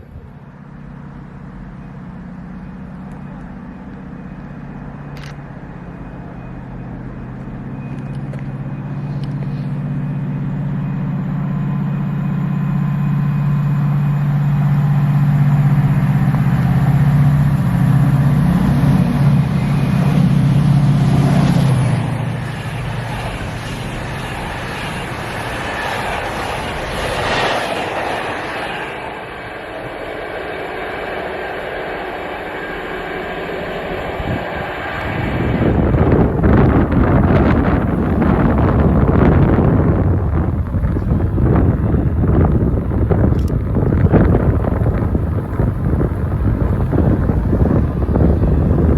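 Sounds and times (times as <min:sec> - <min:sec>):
locomotive engine drone: 0:00.0 - 0:48.9
train rolling by: 0:00.0 - 0:48.9.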